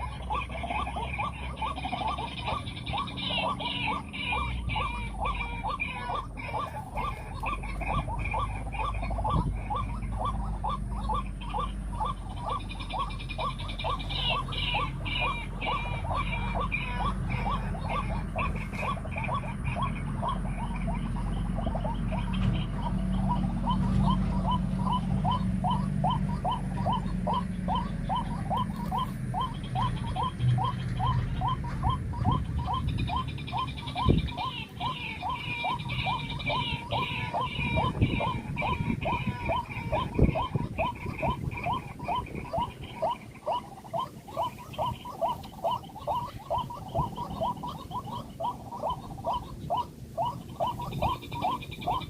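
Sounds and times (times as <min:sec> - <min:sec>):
bird calling upward-sliding notes: 0:00.0 - 0:52.0
steady low hum: 0:00.0 - 0:52.0.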